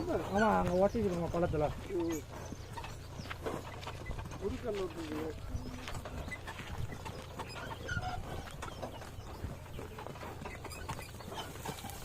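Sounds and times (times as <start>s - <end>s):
hooves clattering: 0.0s - 12.0s
wooden cart knocking: 0.0s - 12.0s.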